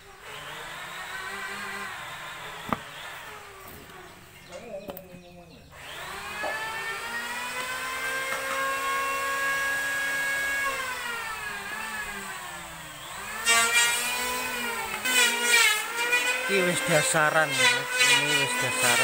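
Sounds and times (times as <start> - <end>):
small motor whining: 0.0 - 19.0.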